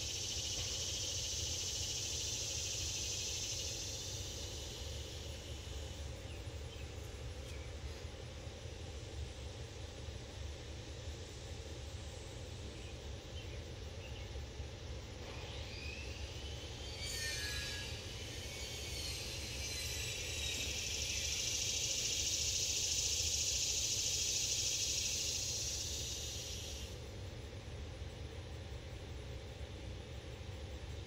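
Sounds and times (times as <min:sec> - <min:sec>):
high buzzing hiss: 0:00.0 - 0:31.0.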